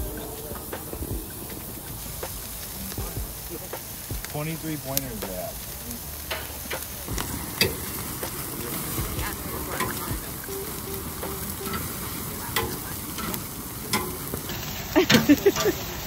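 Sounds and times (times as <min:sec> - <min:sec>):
meat sizzling on grill: 0:00.0 - 0:16.0
sharp pops from fire: 0:00.0 - 0:16.0
wood fire crackling: 0:00.0 - 0:16.0.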